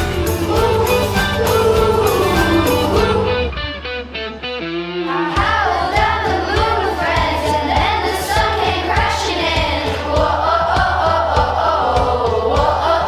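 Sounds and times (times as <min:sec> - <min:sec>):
steady beat: 0:00.0 - 0:03.3, 0:05.4 - 0:13.0
choir singing: 0:00.0 - 0:03.7, 0:05.0 - 0:13.0.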